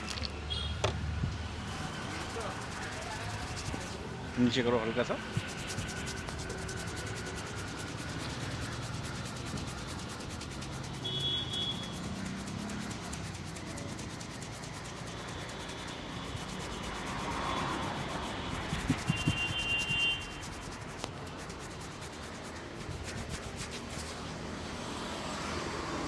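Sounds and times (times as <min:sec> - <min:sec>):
hands rubbing hair and scalp: 0:01.7 - 0:04.0, 0:05.2 - 0:24.3.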